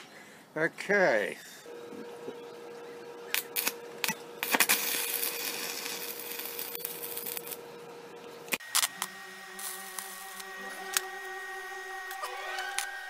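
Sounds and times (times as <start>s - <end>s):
faint steady hum: 0.0s - 13.0s
welding arc crackling and sizzling: 0.9s - 13.0s.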